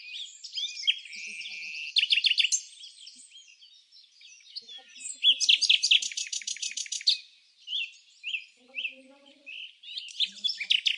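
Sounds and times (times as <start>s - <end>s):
songbird trilling and chirping: 0.0s - 10.9s.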